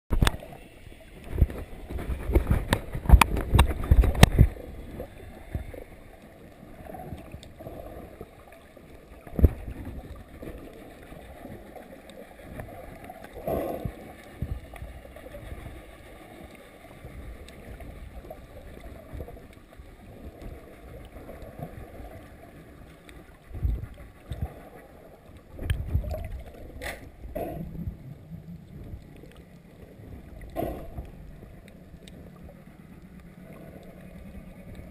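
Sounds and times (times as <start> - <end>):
underwater water wash: 0.1 - 34.9.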